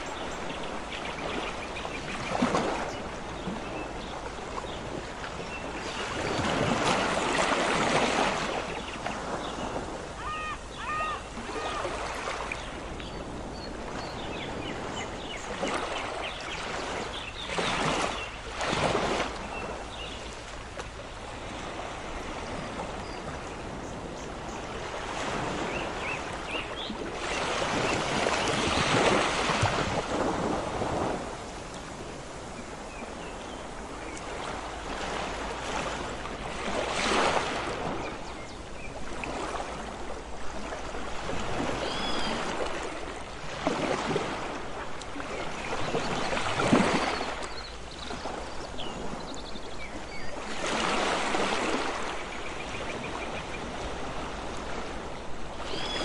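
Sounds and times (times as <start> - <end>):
sea surf washing: 0.0 - 47.5
waves breaking: 0.0 - 56.0.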